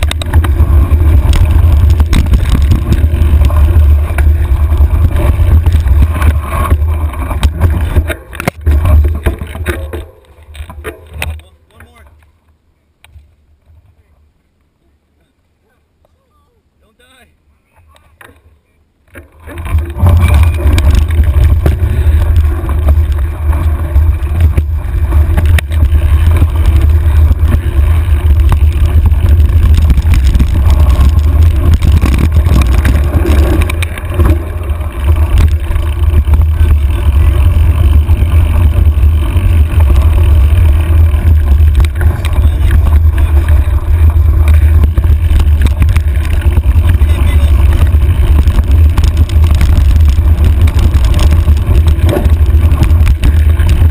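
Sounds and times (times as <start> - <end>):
wind buffeting microphone: 0.0 - 9.2, 19.6 - 53.9
bike knocks and rattles: 0.0 - 12.2, 19.1 - 53.9.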